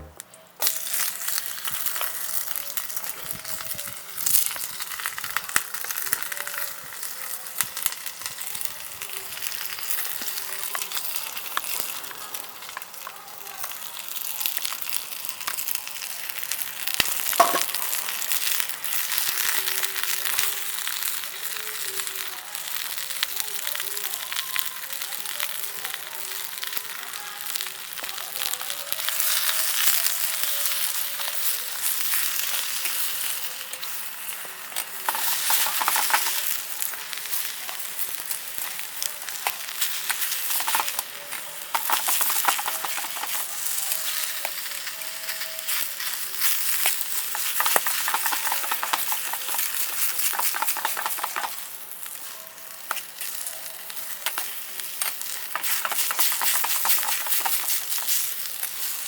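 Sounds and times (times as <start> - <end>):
food sizzling in a pan: 0.4 - 59.0.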